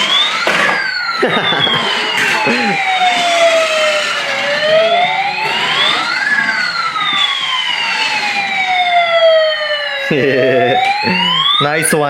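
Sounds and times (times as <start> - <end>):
toy fire truck siren wailing: 0.0 - 12.0.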